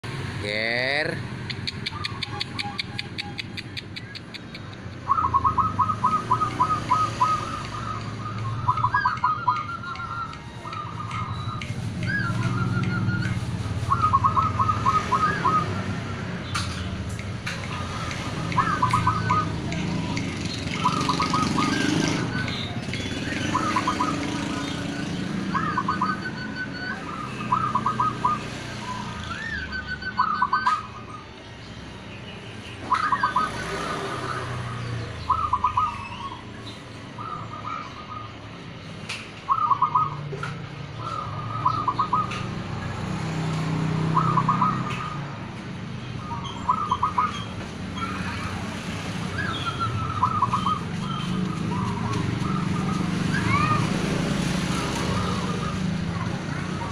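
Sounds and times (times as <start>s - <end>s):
doves cooing: 1.4s - 31.2s, 32.8s - 36.4s, 39.4s - 45.5s, 46.2s - 56.9s.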